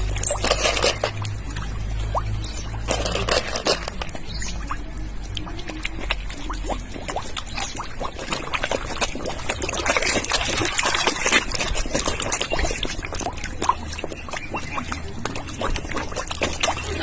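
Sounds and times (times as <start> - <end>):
river water splashing: 0.0 - 17.0.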